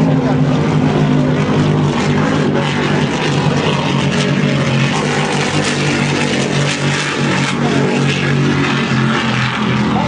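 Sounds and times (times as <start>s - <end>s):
powerboat engines droning: 0.0s - 10.0s
rushing water and spray: 0.0s - 10.0s.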